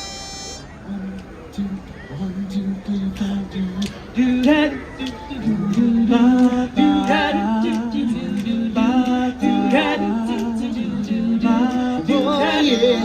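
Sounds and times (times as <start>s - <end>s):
vocal group singing harmony: 1.6s - 13.0s.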